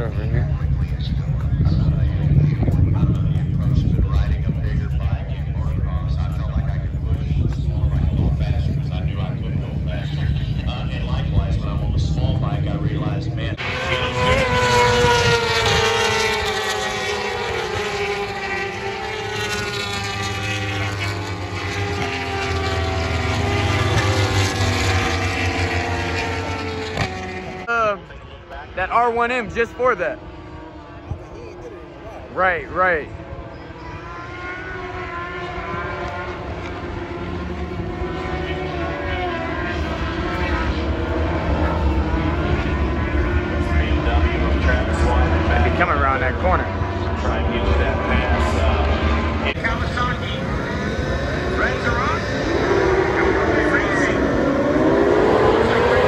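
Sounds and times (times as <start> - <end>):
race motorcycles passing at high revs: 0.0 - 56.0.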